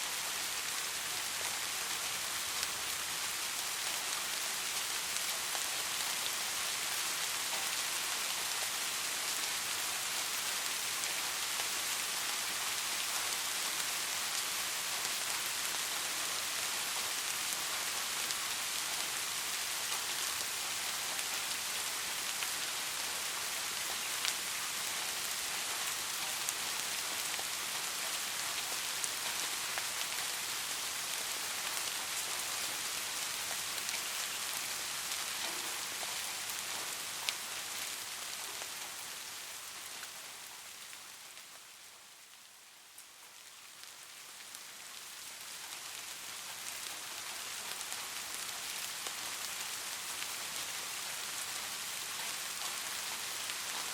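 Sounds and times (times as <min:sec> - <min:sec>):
raindrops: 0:00.0 - 0:53.9
steady rain on a street: 0:00.0 - 0:53.9.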